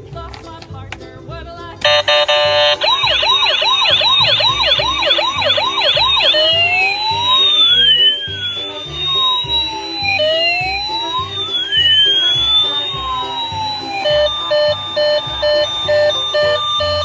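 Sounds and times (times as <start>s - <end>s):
low pulsing beat: 1.9s - 17.0s
toy electronic siren: 1.9s - 17.0s.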